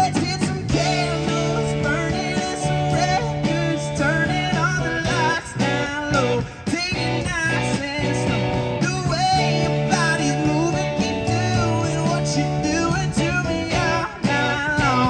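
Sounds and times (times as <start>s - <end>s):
acoustic guitars: 0.0s - 15.0s
drums: 0.0s - 15.0s
electric bass: 0.0s - 15.0s
rock band playing: 0.0s - 15.0s.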